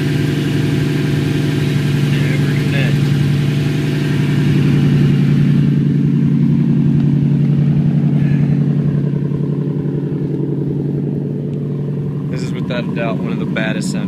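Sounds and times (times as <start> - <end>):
car exhaust idling deep note: 0.0 - 14.0.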